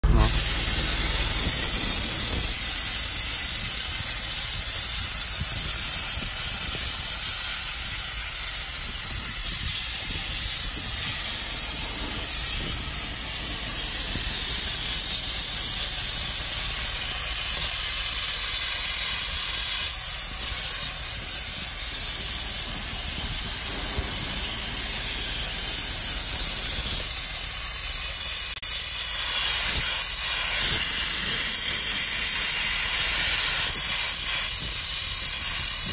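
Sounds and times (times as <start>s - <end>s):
blasting gun loud hiss: 0.0s - 35.9s.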